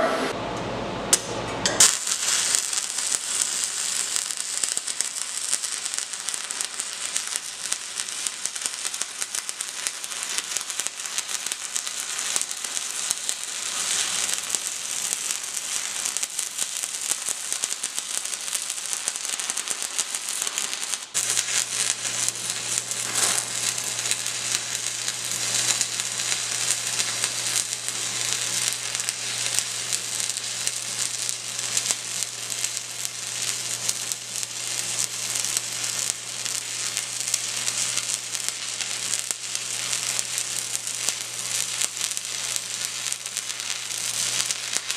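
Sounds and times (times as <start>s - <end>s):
welding arc crackling: 1.1s - 44.9s.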